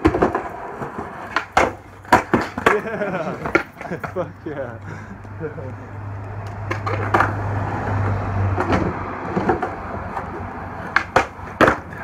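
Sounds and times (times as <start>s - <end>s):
skateboard clacks: 0.0s - 5.4s, 6.2s - 12.0s
skateboard wheels rolling on concrete: 0.0s - 12.0s.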